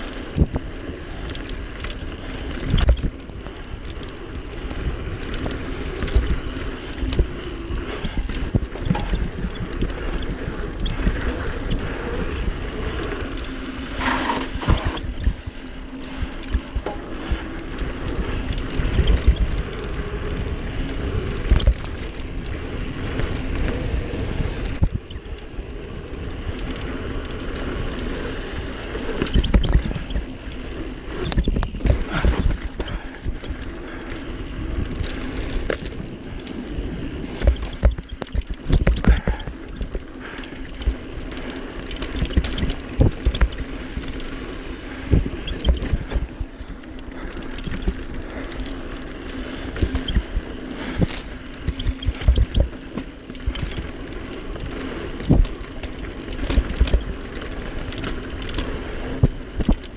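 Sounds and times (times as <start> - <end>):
bike knocking and rattling: 0.0 - 59.9
bike tyres on dirt: 0.0 - 59.9
wind buffeting microphone: 0.0 - 59.9.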